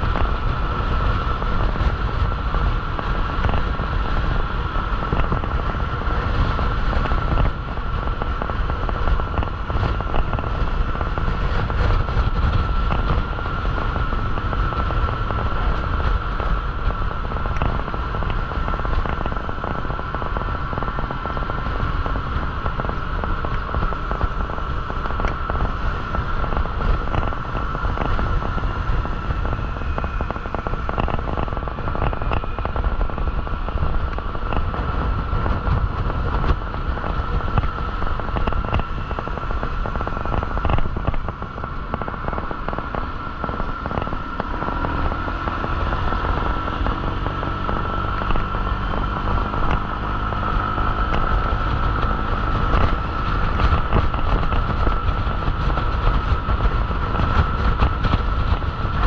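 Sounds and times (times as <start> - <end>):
high-pitched whine: 0.0 - 59.0
motorcycle engine: 0.0 - 59.0
wind buffeting microphone: 0.0 - 59.0.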